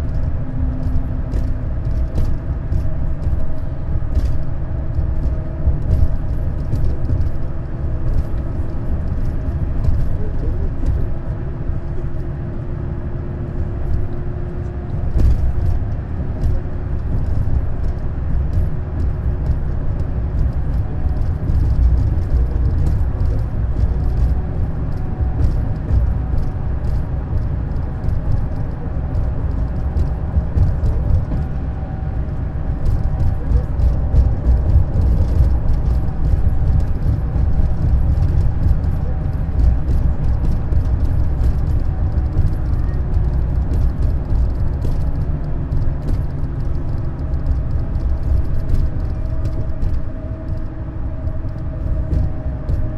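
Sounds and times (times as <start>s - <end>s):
rattles and clicks: 0.0s - 12.6s, 13.4s - 52.9s
coach engine and road drone: 0.0s - 52.9s.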